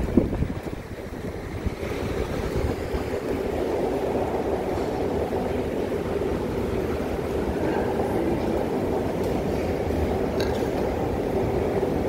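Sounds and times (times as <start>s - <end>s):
distant trains: 0.0s - 12.0s
hum of machinery: 0.0s - 12.0s.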